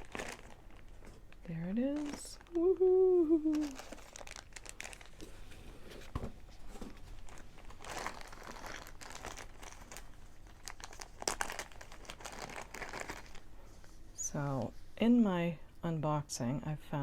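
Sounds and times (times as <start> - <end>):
packaging crinkling and rustling: 0.0 - 14.7.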